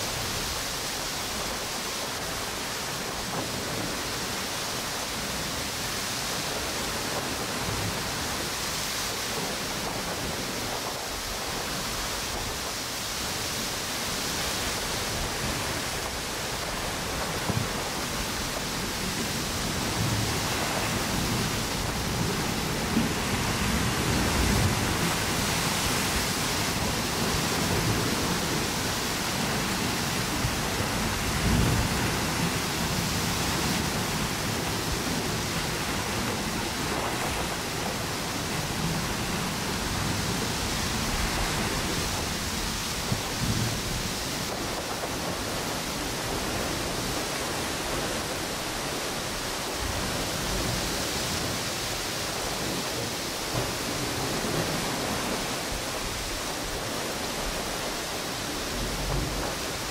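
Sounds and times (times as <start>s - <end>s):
ocean surf: 0.0s - 59.9s
wind through palm trees: 0.0s - 59.9s.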